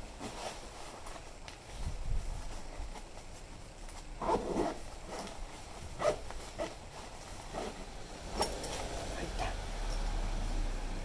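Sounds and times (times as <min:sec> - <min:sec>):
nylon fabric rustling: 0:00.0 - 0:09.6.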